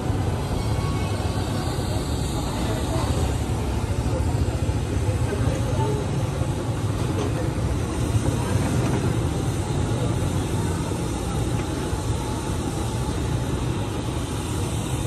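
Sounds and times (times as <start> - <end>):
faint voices: 0.0 - 15.0
market noise: 0.0 - 15.0
street traffic rumble: 0.0 - 15.0.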